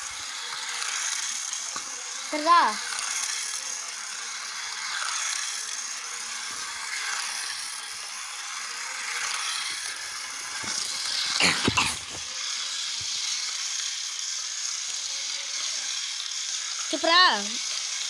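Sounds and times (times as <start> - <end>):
toy train motor whirring: 0.0 - 18.0.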